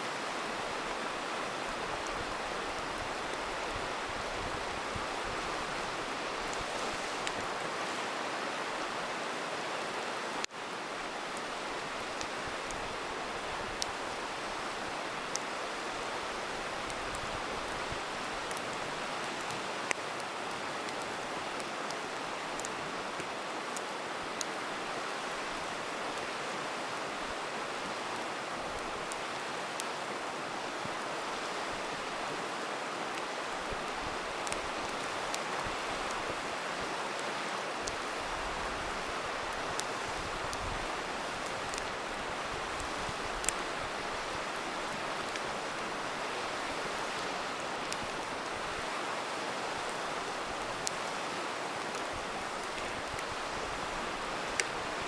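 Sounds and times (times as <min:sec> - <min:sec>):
river flowing: 0:00.0 - 0:55.0
campfire crackling and popping: 0:00.1 - 0:09.0, 0:09.8 - 0:55.0.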